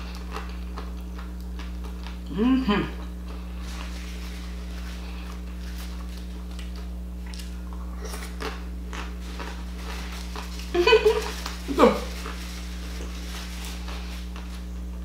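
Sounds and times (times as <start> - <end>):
crunching of a crisp taco shell: 0.0 - 2.3, 3.2 - 15.0
low electrical hum: 0.0 - 15.0.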